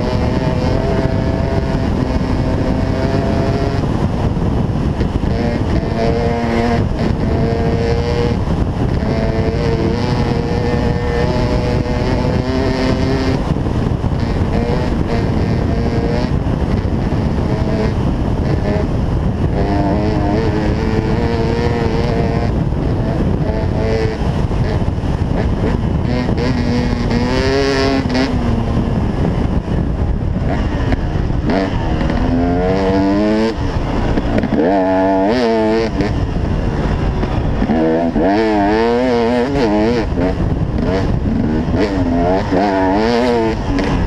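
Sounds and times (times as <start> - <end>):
dirt bike engine revving: 0.0 - 44.0
wind rushing: 0.0 - 44.0.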